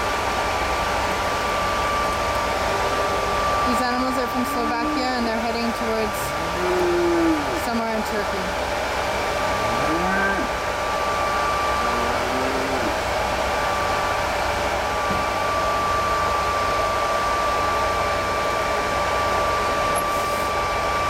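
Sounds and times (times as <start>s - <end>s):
mechanical whirring hum: 0.0s - 21.0s.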